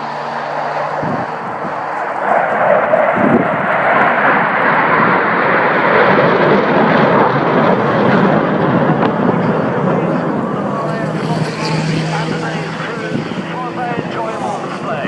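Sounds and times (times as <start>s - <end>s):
jets roaring past: 0.0s - 15.0s.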